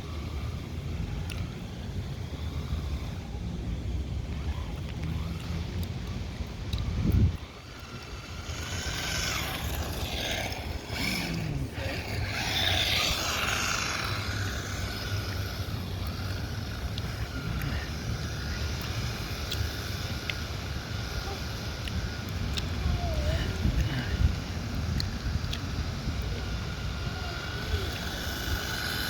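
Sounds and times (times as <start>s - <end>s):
small electric motor whining: 0.0s - 29.0s
wind rumble on microphone: 0.0s - 29.0s.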